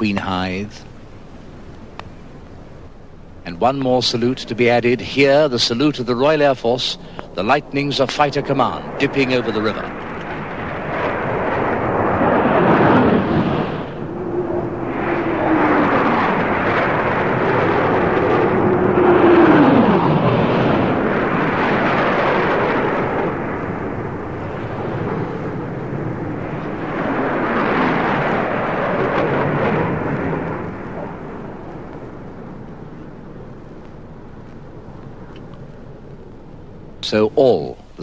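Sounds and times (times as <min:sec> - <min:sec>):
jet aircraft flying overhead: 0:00.0 - 0:38.0.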